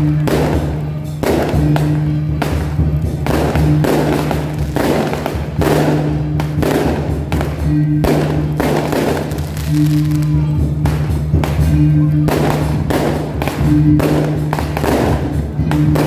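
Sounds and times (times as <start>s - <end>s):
firecrackers: 0.0s - 16.0s
heavy thudding beats: 0.0s - 16.0s
procession music with drone: 0.0s - 16.0s.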